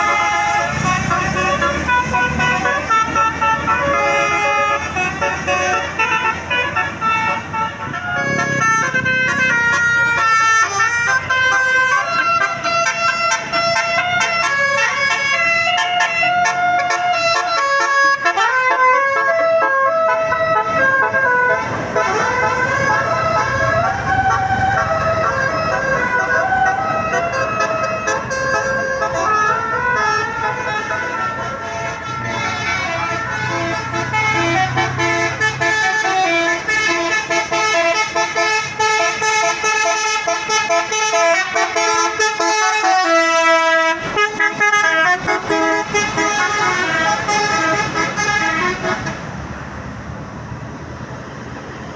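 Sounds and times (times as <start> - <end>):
musical bus horn playing a tune: 0.0 - 49.3.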